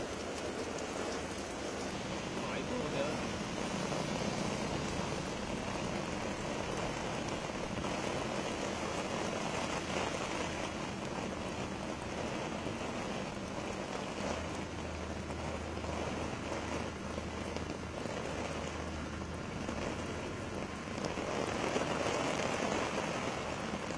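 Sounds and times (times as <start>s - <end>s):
heavy rain on pavement and cars: 0.0s - 23.9s.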